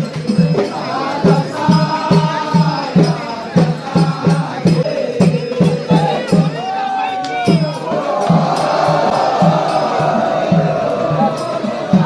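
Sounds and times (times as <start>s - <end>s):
steady drum beat: 0.0s - 12.0s
voices chanting: 0.0s - 12.0s.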